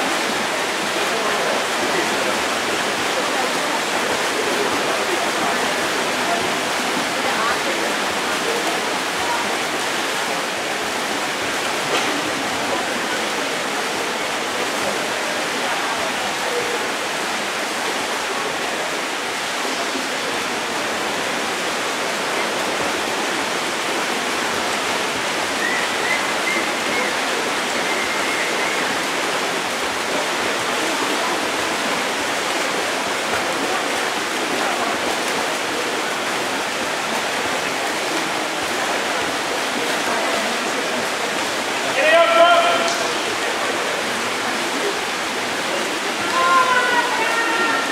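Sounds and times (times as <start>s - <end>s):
swimmers splashing water: 0.0s - 47.9s.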